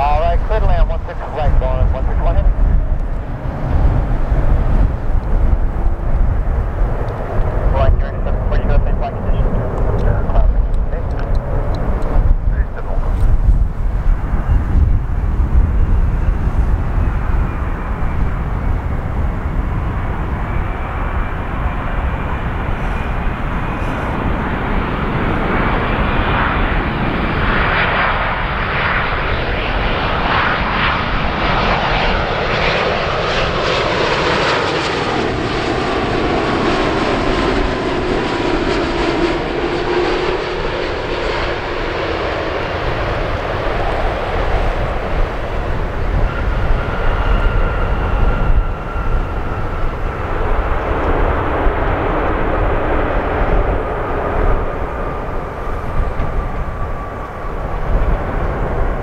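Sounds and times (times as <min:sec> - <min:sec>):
jet engines roaring and whining: 0:00.0 - 0:59.0.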